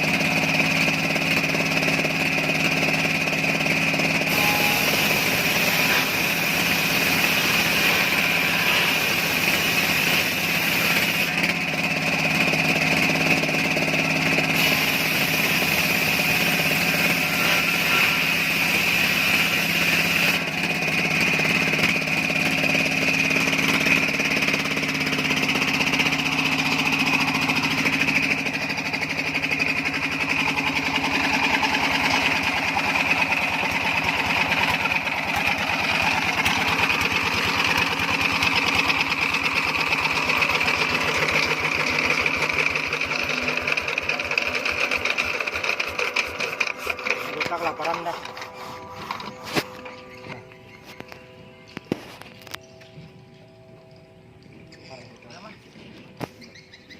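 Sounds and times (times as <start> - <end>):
engine droning steadily: 0.0 - 56.9.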